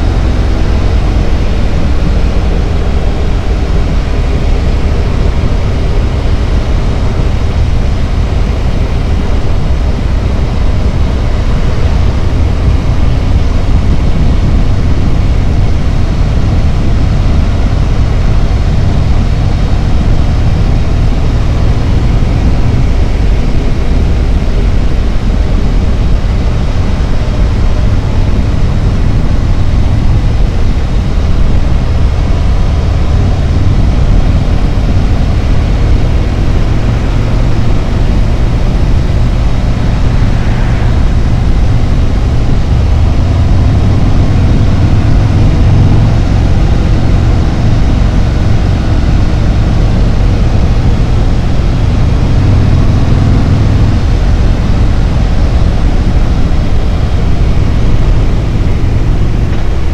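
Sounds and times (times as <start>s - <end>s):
motorcycle engine deep rumble: 0.0s - 59.9s
rushing wind noise: 0.0s - 59.9s.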